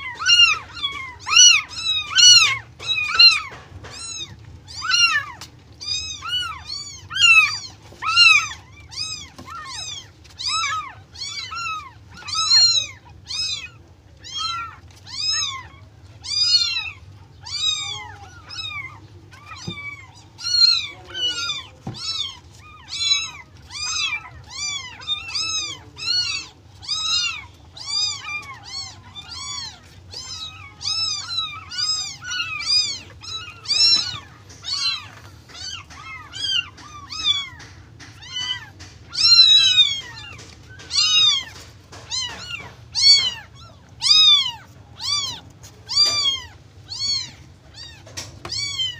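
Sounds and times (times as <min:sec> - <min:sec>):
kitten mewing: 0:00.0 - 0:48.9.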